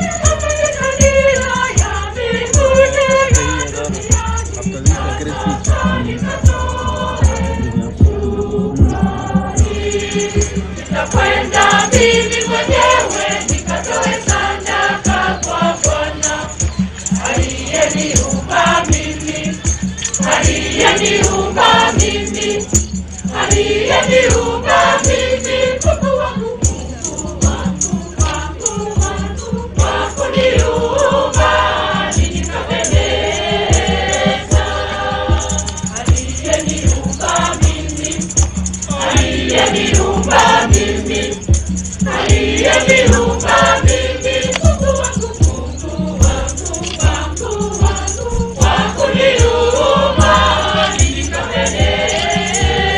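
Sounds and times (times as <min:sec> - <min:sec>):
choir singing gospel: 0:00.0 - 0:52.9
rattling shaker: 0:00.0 - 0:52.9
steady drum beat: 0:00.0 - 0:52.9.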